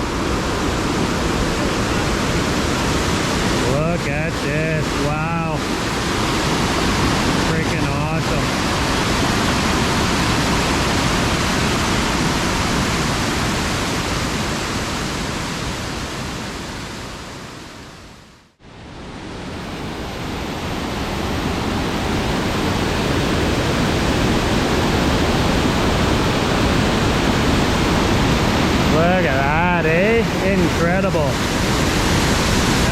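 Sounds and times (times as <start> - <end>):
waterfall roaring: 0.0 - 17.6, 19.0 - 32.9.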